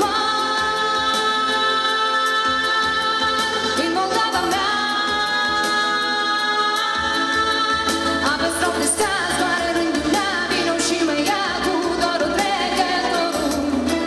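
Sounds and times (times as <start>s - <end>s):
woman singing a pop ballad: 0.0s - 14.0s.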